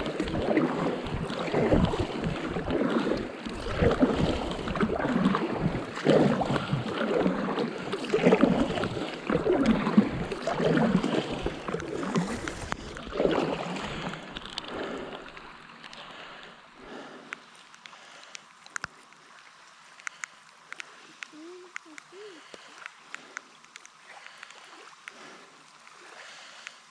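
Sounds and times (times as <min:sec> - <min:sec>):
light rain hiss: 0:00.0 - 0:26.9
paddle strokes splashing water: 0:00.0 - 0:26.9.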